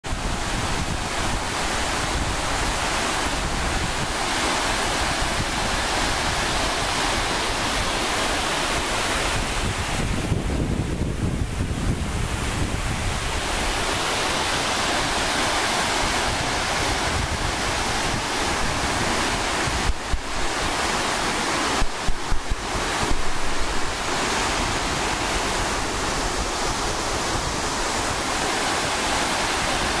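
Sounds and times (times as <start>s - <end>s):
microphone wind buffeting: 0.0s - 30.0s
water rushing over dam spillway: 0.0s - 30.0s.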